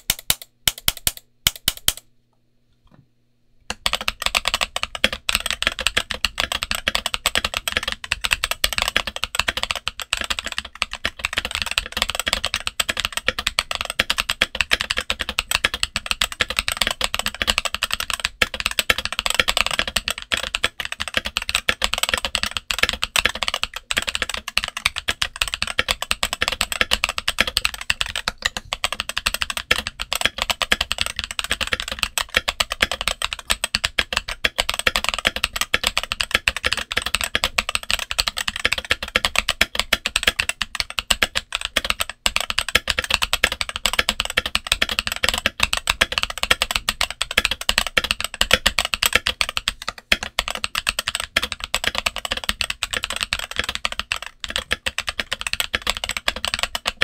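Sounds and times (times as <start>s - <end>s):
fast mechanical keyboard typing: 0.0s - 2.0s, 3.7s - 57.0s.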